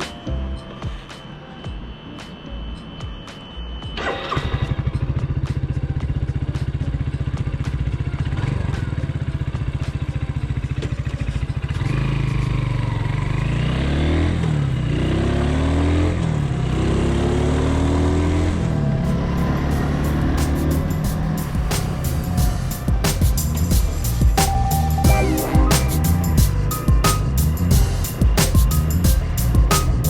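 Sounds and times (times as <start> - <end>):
motorcycle engine idling and revving: 3.9 - 30.0.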